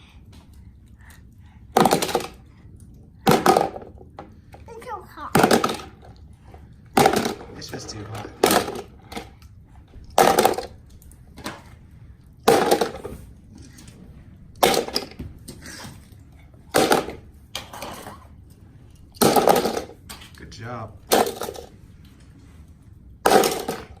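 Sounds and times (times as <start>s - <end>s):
plastic toy cars clattering: 1.7s - 11.8s, 12.4s - 14.0s, 14.6s - 22.3s, 23.2s - 24.0s.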